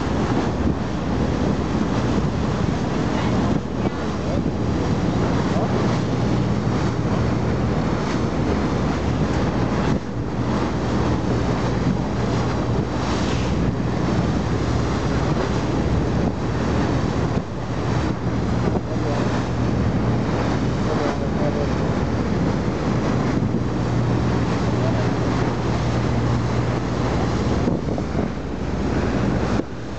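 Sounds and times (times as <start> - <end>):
boat engine humming: 0.0 - 29.9
sea water rushing against hull: 0.0 - 29.9
wind buffeting microphone: 0.0 - 29.9.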